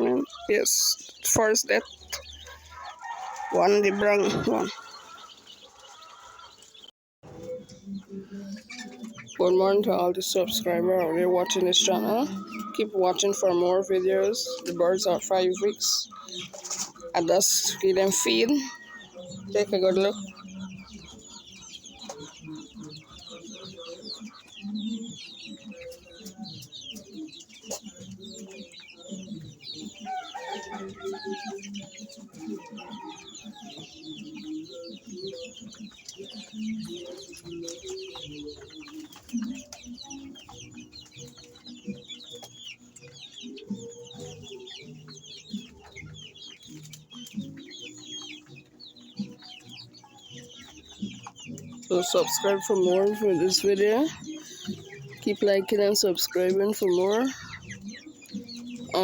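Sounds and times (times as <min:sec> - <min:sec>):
chickens clucking and peeping: 0:00.0 - 0:59.0.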